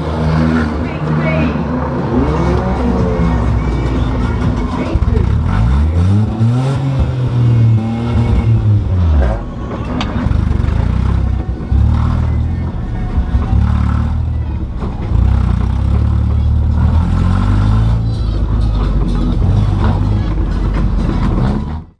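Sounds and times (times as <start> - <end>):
car engine revving and droning: 0.0 - 21.9.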